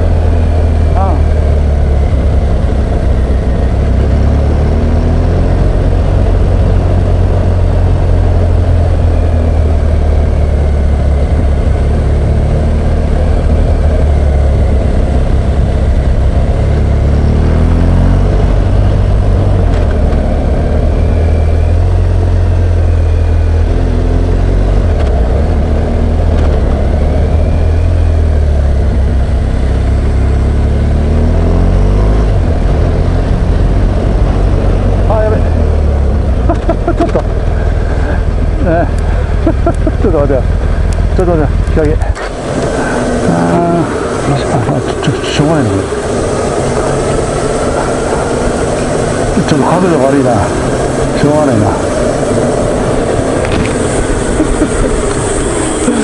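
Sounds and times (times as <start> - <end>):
motorcycle engine drone: 0.0 - 56.0.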